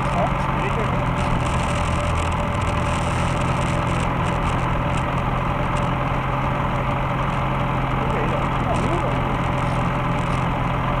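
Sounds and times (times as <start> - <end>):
race car engine idling: 0.0 - 11.0.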